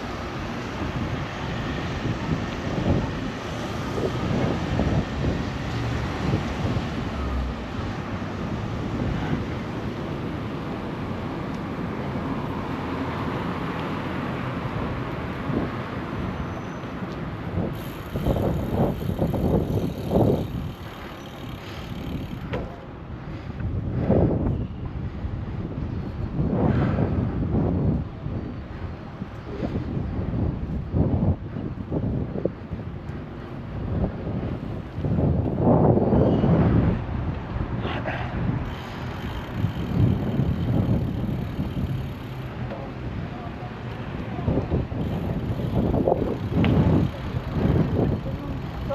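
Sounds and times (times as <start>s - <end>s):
wind buffeting microphone: 0.0s - 10.6s, 17.2s - 48.9s
city street traffic: 0.0s - 48.9s.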